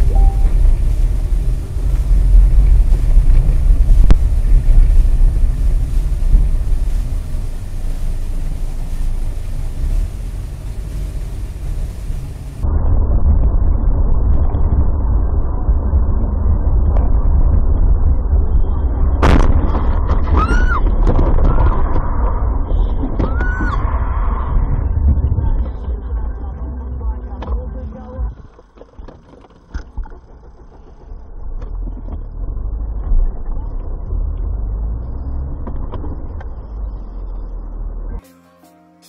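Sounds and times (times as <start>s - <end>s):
car engine and road noise: 0.0s - 38.3s.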